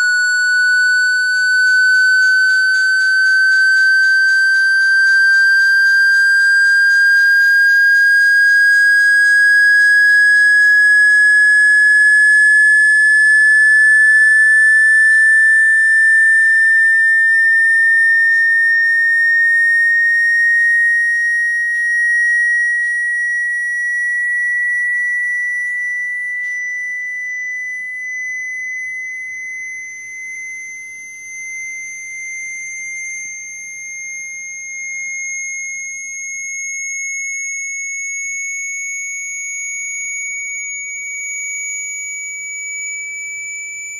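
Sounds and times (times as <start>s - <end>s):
high sine tone rising: 0.0s - 43.9s.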